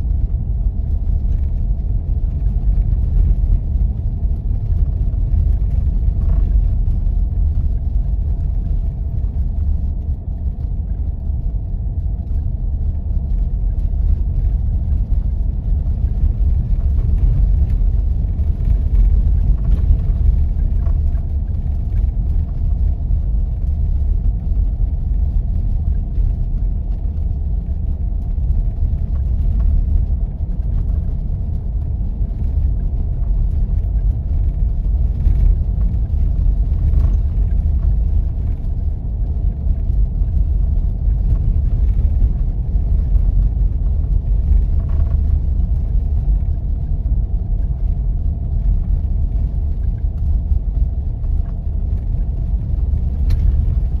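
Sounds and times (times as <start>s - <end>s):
engine and tyres rumbling: 0.0s - 54.0s
faint steady hum: 0.0s - 54.0s.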